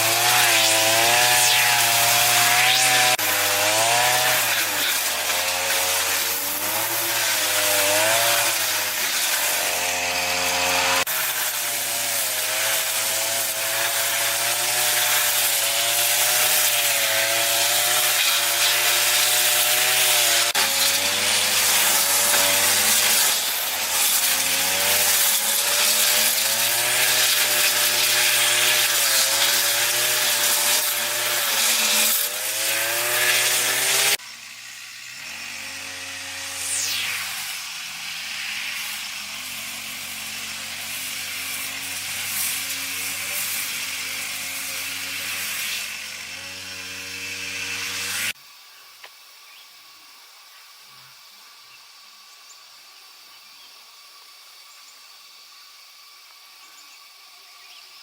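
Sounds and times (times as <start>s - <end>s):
chainsaw cutting wood: 0.0s - 48.4s.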